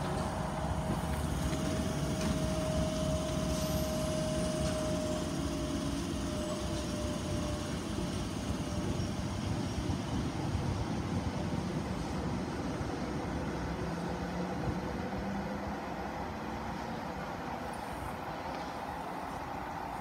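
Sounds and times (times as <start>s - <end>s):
train low rumble: 0.0s - 20.0s
train whine: 0.0s - 20.0s.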